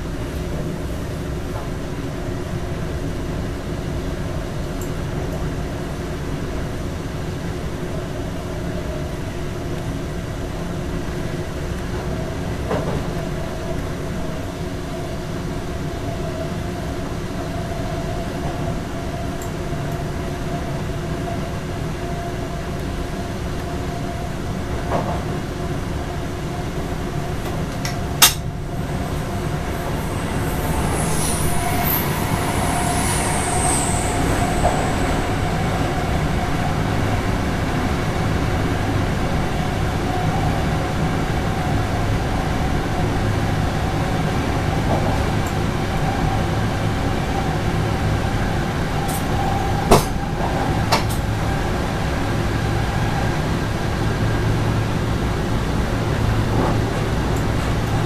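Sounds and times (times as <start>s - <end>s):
electric train hum: 0.0s - 58.0s
train rumble: 0.0s - 58.0s.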